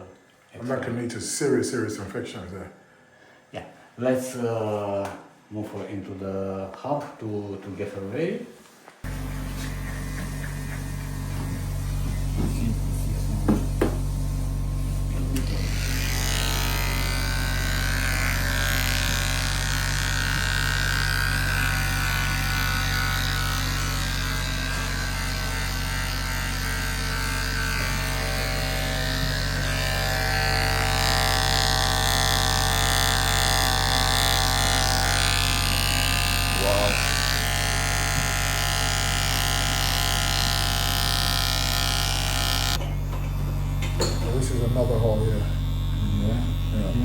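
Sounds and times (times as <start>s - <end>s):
electric clippers buzzing: 9.0s - 47.0s.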